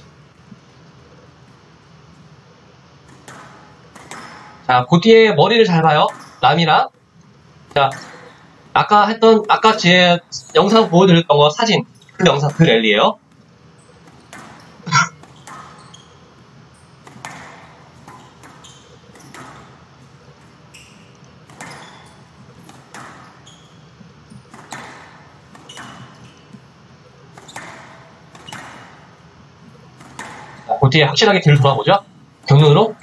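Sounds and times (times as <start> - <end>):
squash ball hitting rackets and walls: 1.1 - 4.8, 5.5 - 11.2, 11.8 - 30.8.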